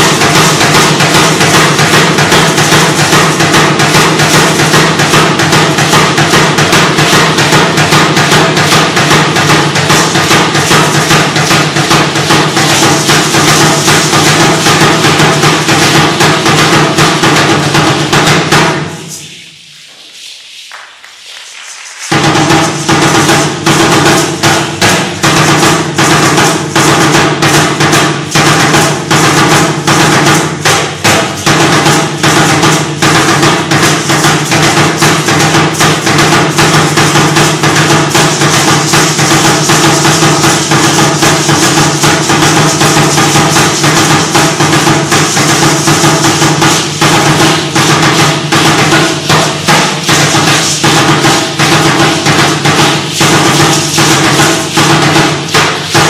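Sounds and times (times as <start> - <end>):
upright drum beaten rapidly: 0.0 - 19.5, 21.9 - 56.0.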